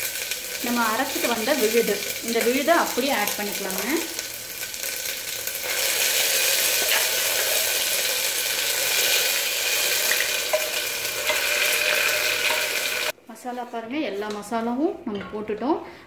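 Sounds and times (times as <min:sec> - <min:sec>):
hot oil sizzling: 0:00.0 - 0:13.2.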